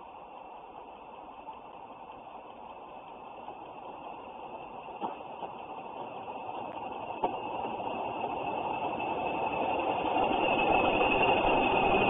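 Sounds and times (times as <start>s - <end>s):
diesel locomotive engine: 0.0s - 12.0s
train wheels on rails: 0.0s - 12.0s.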